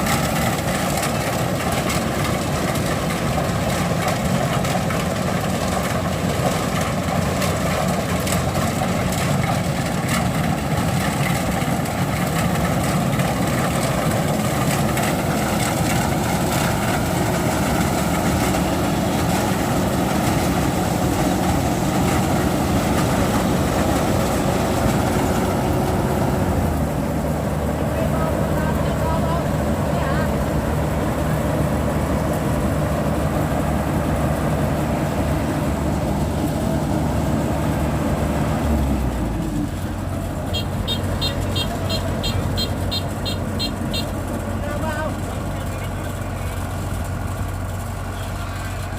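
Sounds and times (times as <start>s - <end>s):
combine harvester engine clattering: 0.0s - 48.9s.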